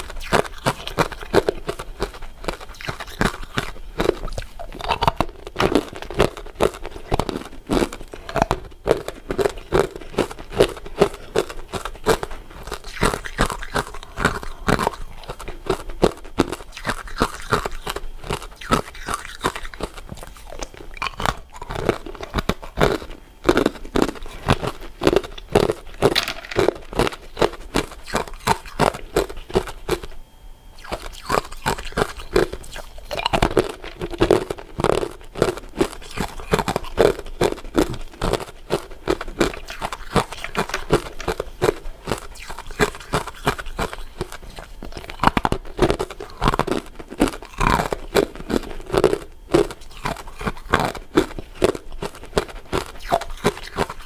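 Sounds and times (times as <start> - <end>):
crunching and chewing ice dessert: 0.0 - 54.0.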